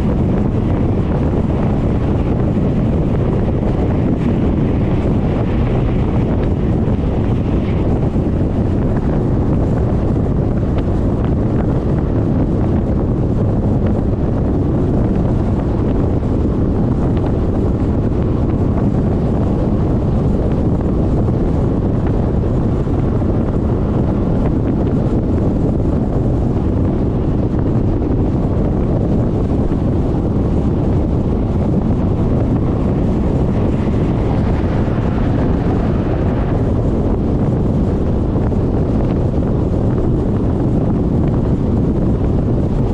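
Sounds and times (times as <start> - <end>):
road and vehicle noise: 0.0 - 42.9
wind rushing over microphone: 0.0 - 42.9.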